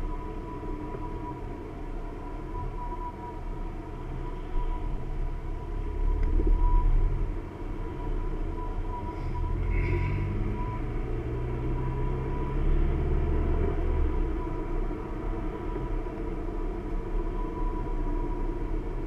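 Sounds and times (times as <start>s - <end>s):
car engine hum: 0.0s - 19.0s
faint high whine: 0.0s - 19.0s
road rumble: 0.0s - 19.0s.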